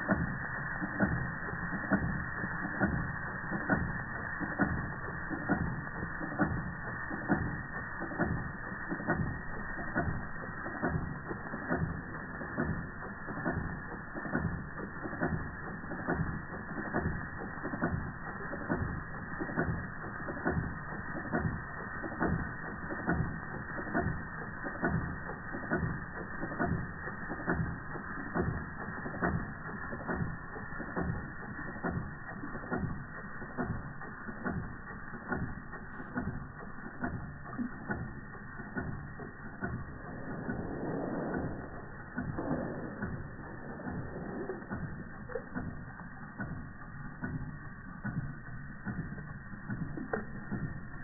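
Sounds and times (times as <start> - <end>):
toy steam engine clattering: 0.0 - 51.0.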